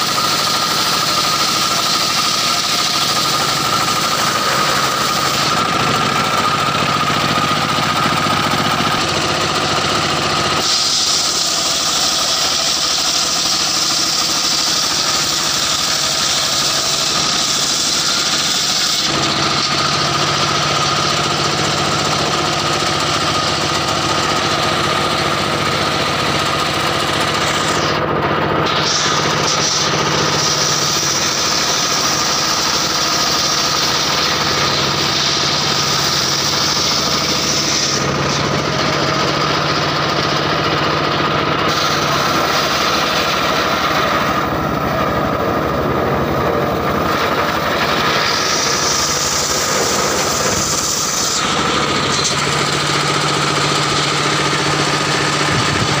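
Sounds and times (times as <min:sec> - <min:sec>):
saw blade cutting log hiss: 0:00.0 - 0:56.0
sawmill engine drone: 0:00.0 - 0:56.0.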